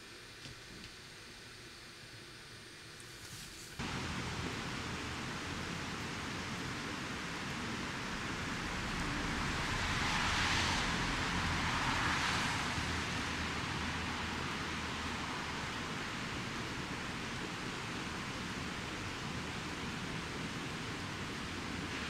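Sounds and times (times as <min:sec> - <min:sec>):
rushing outdoor background noise: 0:03.7 - 0:22.0.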